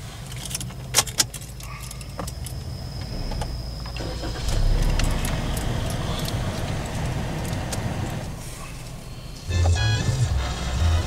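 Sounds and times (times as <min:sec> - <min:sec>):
vehicle engine running: 0:01.5 - 0:11.0.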